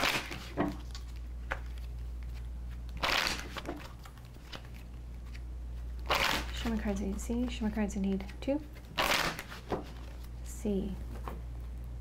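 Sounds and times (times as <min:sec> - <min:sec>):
cards being shuffled: 0:00.0 - 0:07.5, 0:08.1 - 0:10.4
low electrical hum: 0:00.0 - 0:12.0.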